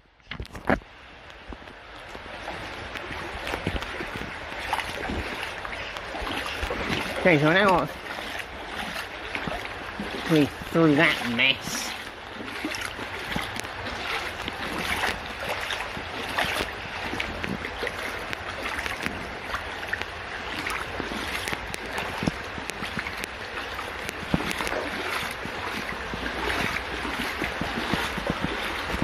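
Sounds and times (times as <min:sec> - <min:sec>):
flowing water rushing: 0:00.1 - 0:29.0
footsteps splashing in water: 0:00.3 - 0:29.0.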